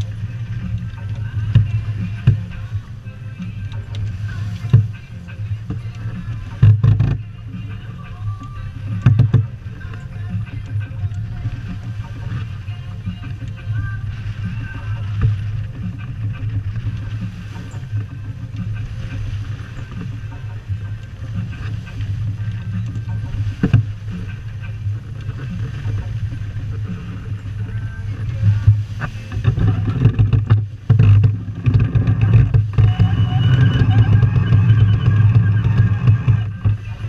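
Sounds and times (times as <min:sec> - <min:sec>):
water rushing along hull: 0:00.0 - 0:37.0
wind buffeting microphone: 0:00.0 - 0:37.0.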